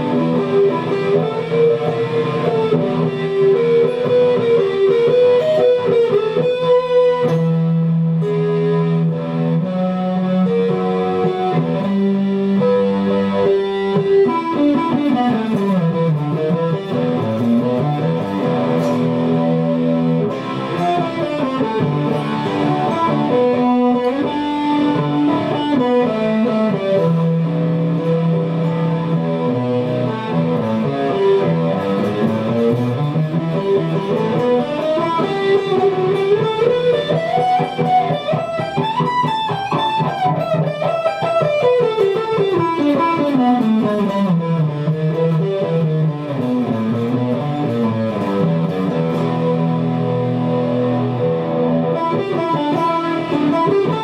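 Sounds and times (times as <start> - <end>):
plucked guitar music: 0.0 - 54.0.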